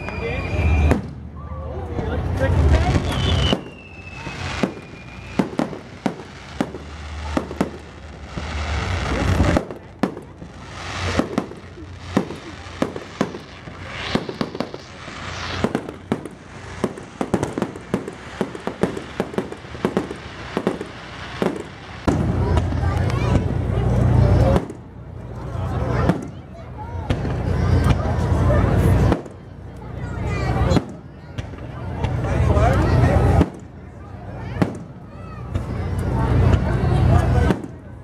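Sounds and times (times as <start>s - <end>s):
fireworks bangs and crackling: 0.0s - 38.0s
fireworks rushing swells: 0.0s - 38.0s.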